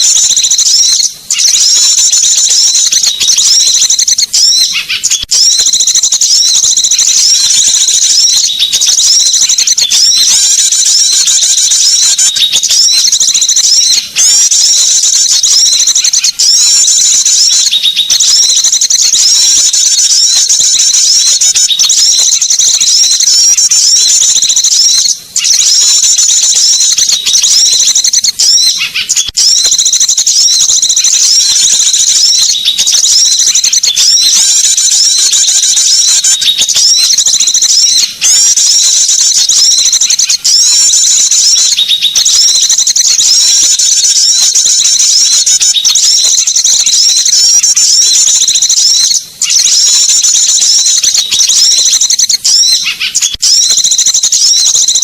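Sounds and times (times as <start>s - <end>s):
small birds chattering: 0.0s - 55.0s.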